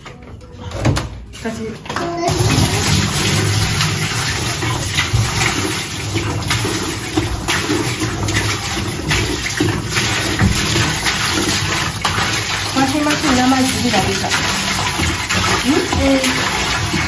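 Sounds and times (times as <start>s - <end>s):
water pouring into plastic tub: 2.3s - 17.0s.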